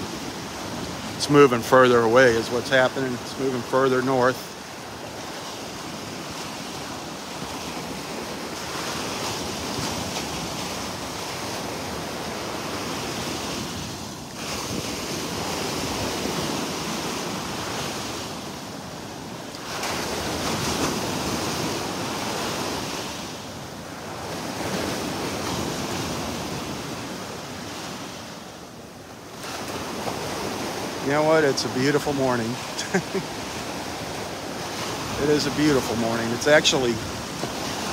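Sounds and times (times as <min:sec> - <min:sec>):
surf breaking on beach: 0:00.0 - 0:37.9.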